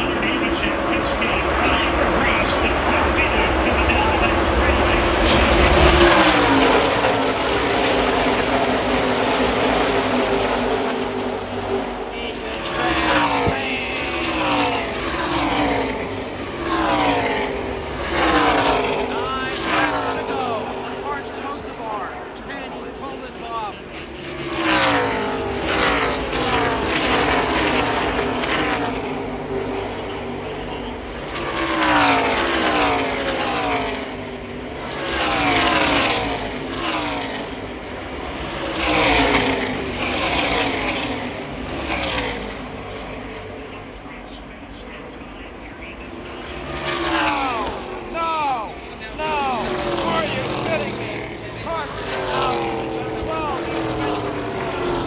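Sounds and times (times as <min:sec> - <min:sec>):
race truck engines passing: 0:00.0 - 0:55.0.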